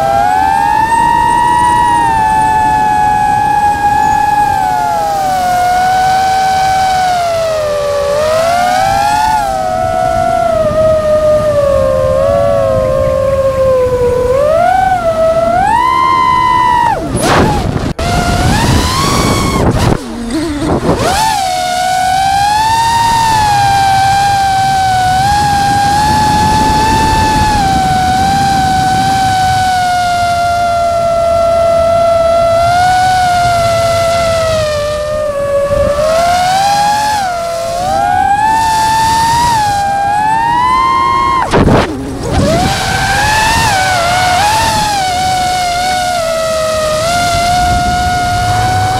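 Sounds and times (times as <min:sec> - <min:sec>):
drone motors whining: 0:00.0 - 0:48.9
rushing noise: 0:00.0 - 0:48.9.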